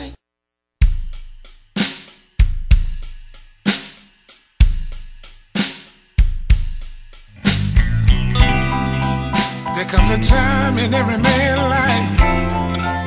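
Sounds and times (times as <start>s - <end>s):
slow drum beat: 0.8s - 12.6s.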